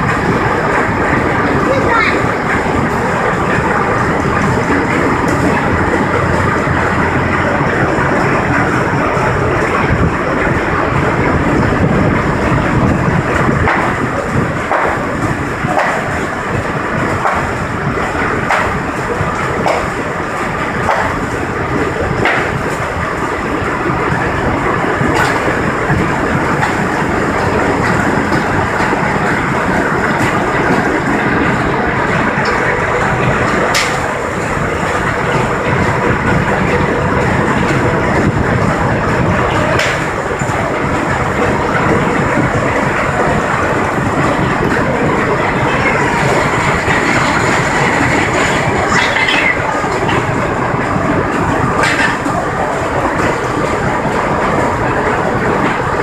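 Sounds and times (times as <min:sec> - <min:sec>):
sawmill machinery clattering: 0:00.0 - 0:56.0.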